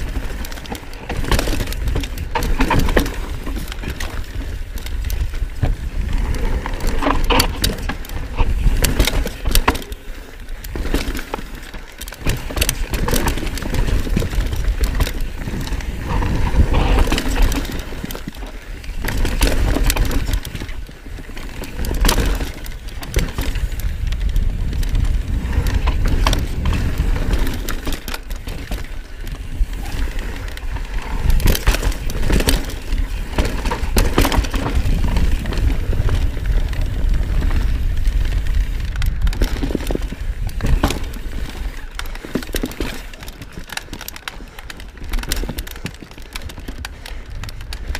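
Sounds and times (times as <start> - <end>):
wind rumble on microphone: 0.0 - 10.5, 12.2 - 43.5, 44.4 - 47.9
bike rattling and clunking: 0.0 - 47.9
tyres on dirt and rocks: 0.0 - 47.9.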